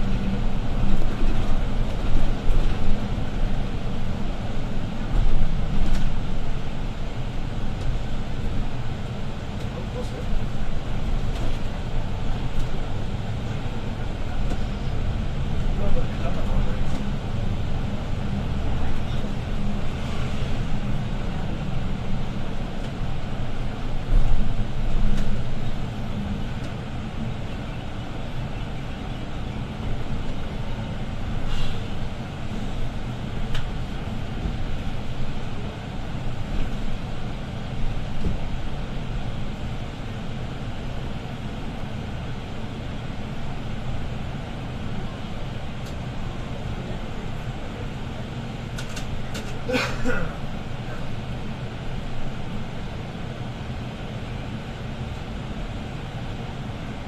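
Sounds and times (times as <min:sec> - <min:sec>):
bus diesel engine drone: 0:00.0 - 0:57.0
road noise: 0:00.0 - 0:57.0.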